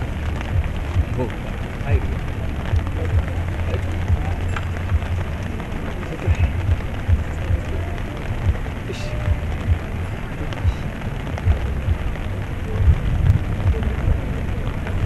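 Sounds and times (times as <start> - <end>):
low thumps: 0.0 - 15.0
rough noisy wash: 0.0 - 15.0
voices chanting: 0.0 - 15.0.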